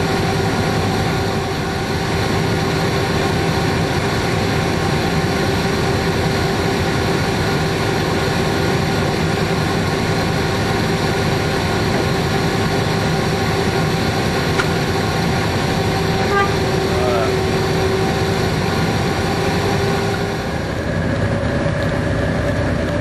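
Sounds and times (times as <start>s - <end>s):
locomotive engine idling: 0.0s - 23.0s.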